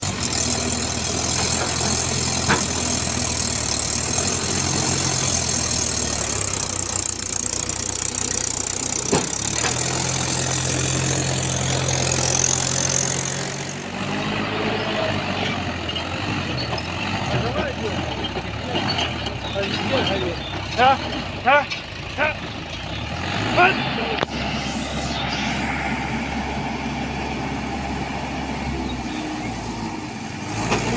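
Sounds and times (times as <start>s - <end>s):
heavy diesel engine running: 0.0s - 30.9s.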